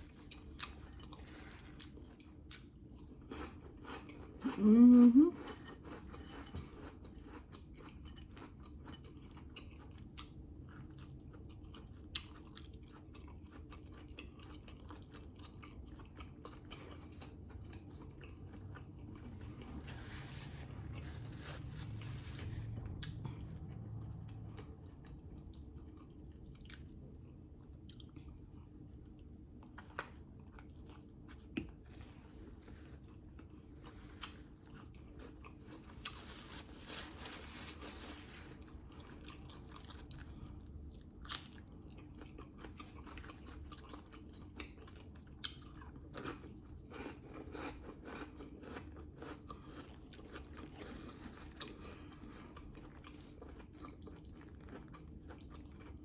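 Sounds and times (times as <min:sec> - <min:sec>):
close chewing and biting: 0:00.0 - 0:56.0.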